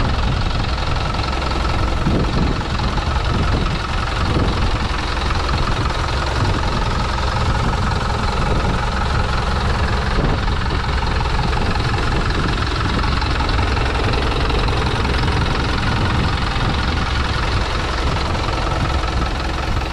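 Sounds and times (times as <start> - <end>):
truck diesel engine idling: 0.0 - 19.9.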